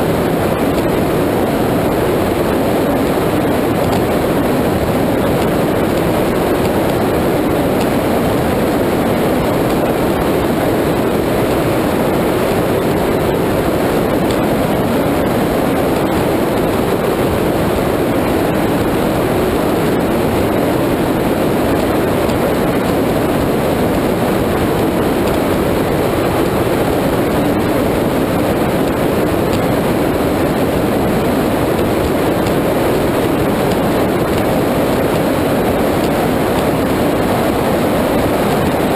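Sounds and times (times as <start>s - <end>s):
rush of wind and water: 0.0s - 38.9s
wind buffeting microphone: 0.0s - 38.9s.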